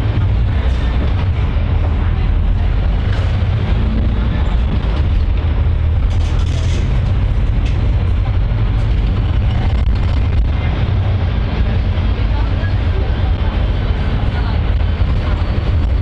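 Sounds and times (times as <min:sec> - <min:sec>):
murmur of passengers' voices: 0:00.0 - 0:16.0
vehicle engine and road rumble: 0:00.0 - 0:16.0.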